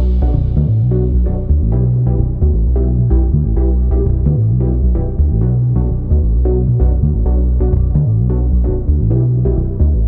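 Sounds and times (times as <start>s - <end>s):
electronic music with synth bass: 0.0s - 10.0s.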